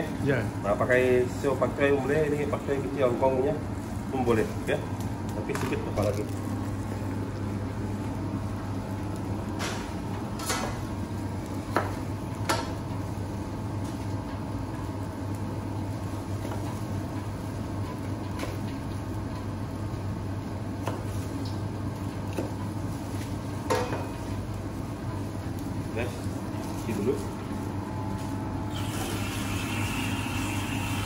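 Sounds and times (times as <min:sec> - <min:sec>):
low kitchen hum: 0:00.0 - 0:31.0.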